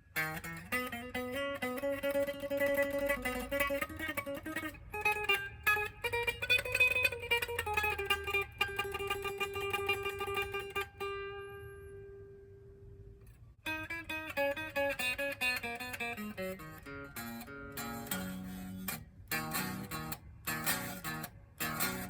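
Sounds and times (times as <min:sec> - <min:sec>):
electric guitar lead lines: 0:00.0 - 0:13.0, 0:13.6 - 0:22.0.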